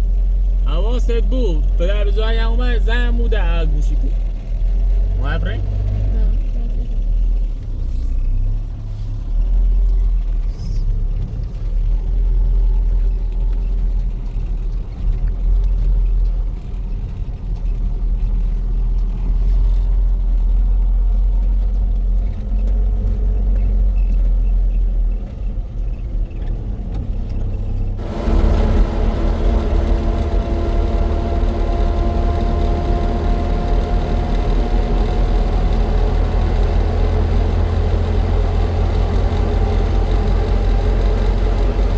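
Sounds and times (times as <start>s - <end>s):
motor vehicle engine rumbling: 0.0s - 41.9s.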